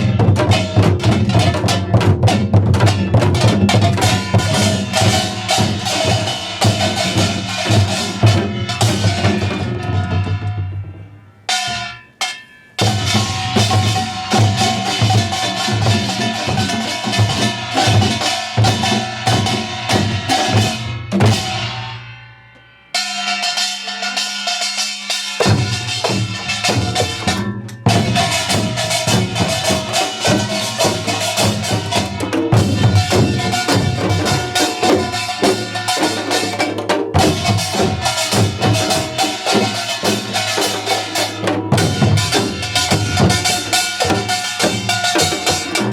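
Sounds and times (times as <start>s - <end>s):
percussion group drums and gongs: 0.0s - 22.2s, 22.9s - 45.9s.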